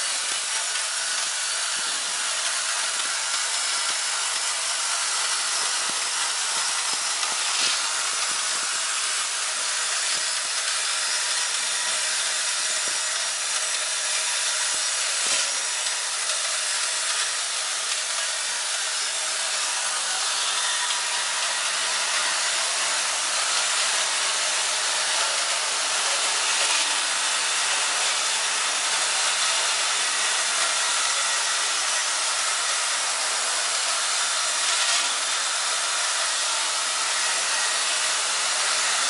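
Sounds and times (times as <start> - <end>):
vibratory feeder machine running: 0.0 - 39.0.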